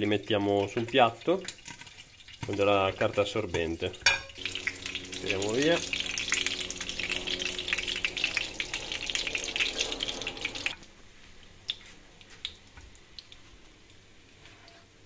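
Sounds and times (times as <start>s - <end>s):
batter frying in hot oil: 0.0s - 15.0s.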